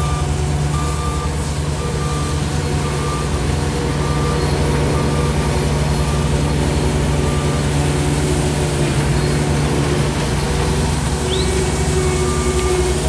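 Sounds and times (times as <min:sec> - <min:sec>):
heavy diesel machine running: 0:00.0 - 0:13.0
reversing alarm beeping: 0:00.0 - 0:13.0.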